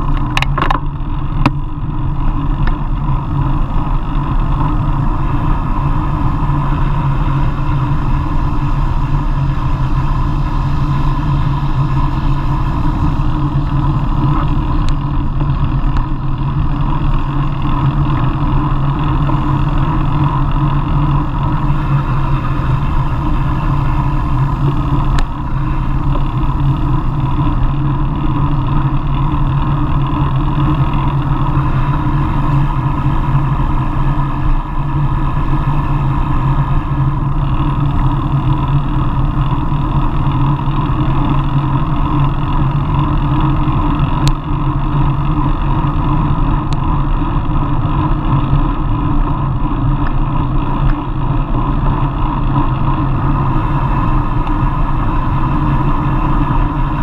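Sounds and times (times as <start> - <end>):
road noise: 0.0 - 57.0
wind rush: 0.0 - 57.0.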